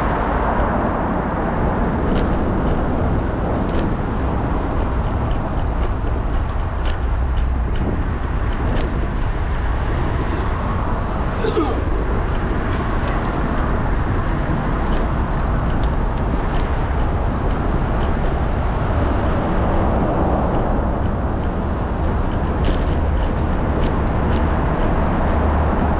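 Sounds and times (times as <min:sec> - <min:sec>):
deep rumble: 0:00.0 - 0:25.9
wind and road noise: 0:00.0 - 0:25.9.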